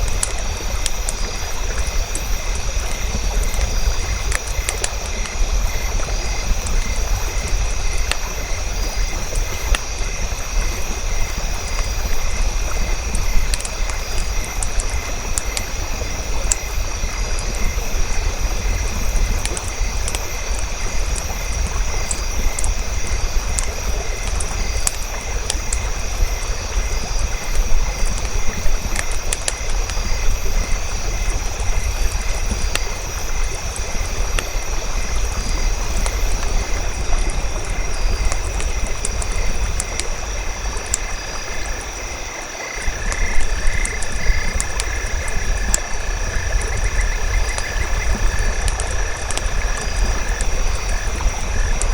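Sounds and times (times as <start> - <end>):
campfire rumble: 0.0 - 51.9
fire crackles and pops: 0.0 - 51.9.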